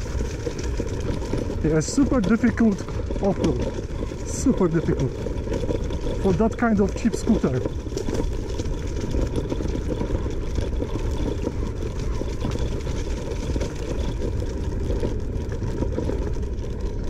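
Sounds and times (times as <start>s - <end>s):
scooter rumbling over rough ground: 0.0s - 17.0s.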